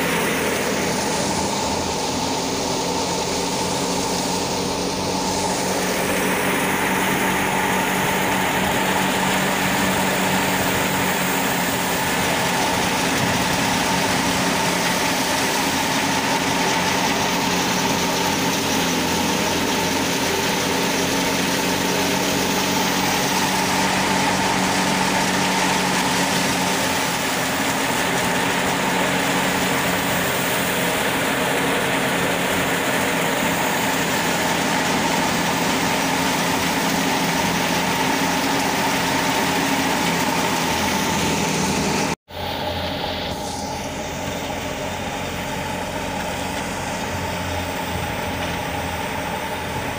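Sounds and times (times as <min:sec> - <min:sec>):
thresher machine drone: 0:00.0 - 0:49.9
tractor engine hum: 0:00.0 - 0:49.9.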